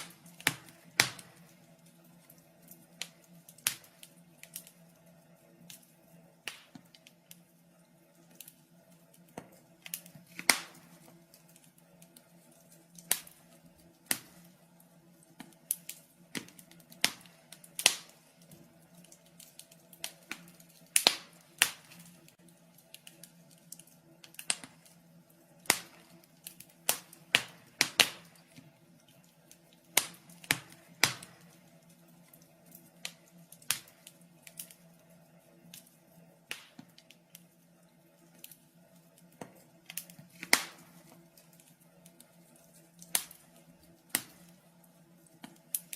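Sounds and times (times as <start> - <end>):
faint steady hum: 0.0 - 45.9
wood fire crackling: 0.0 - 45.9.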